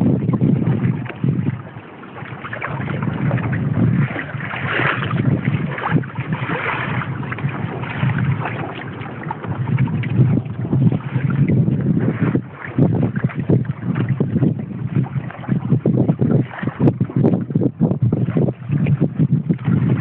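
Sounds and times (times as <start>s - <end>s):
water lapping along hull: 0.0s - 20.0s
wind buffeting microphone: 0.0s - 20.0s.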